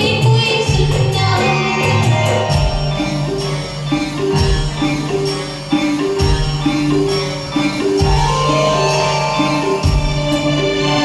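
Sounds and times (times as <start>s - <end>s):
karaoke backing track: 0.0s - 11.0s.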